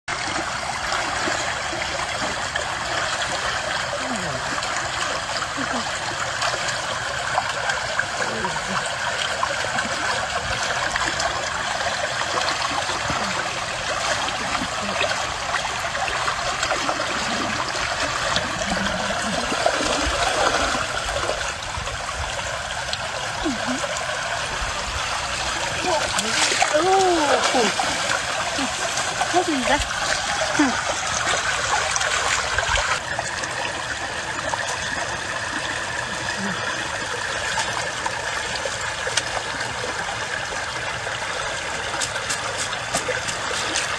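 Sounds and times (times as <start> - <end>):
shallow stream flowing: 0.1 - 43.9.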